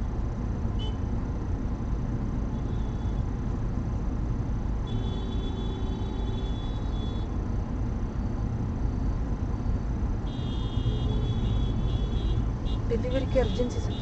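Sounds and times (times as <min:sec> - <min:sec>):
idling traffic rumble: 0:00.0 - 0:14.0.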